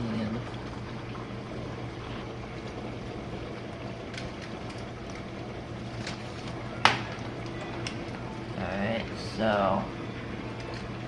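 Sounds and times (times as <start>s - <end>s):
dishwasher motor hum: 0.0s - 11.0s.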